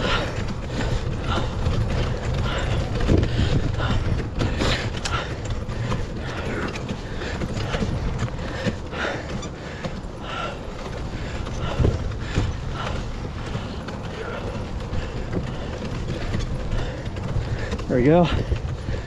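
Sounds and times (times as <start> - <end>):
bike rattling over bumps: 0.0 - 19.0
tyres and wind rumble: 0.0 - 19.0.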